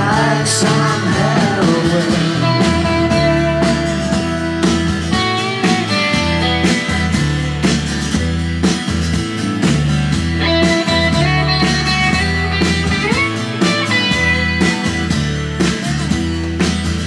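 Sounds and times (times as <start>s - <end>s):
low bass notes: 0.0s - 17.0s
rock band music: 0.0s - 17.0s.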